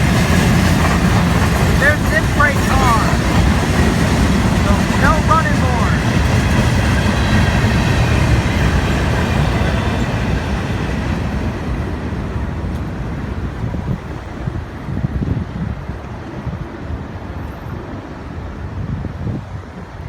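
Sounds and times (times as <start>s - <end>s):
freight train rolling on rails: 0.0s - 20.0s.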